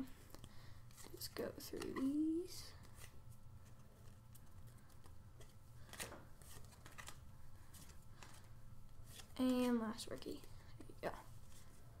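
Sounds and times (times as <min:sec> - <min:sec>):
trading cards flipping: 0:00.4 - 0:10.4.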